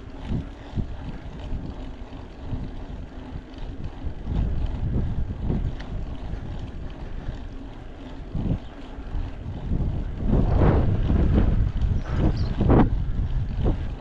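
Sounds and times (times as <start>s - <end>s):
bike rolling over rough trail: 0.0s - 14.0s
wind buffeting microphone: 0.0s - 14.0s.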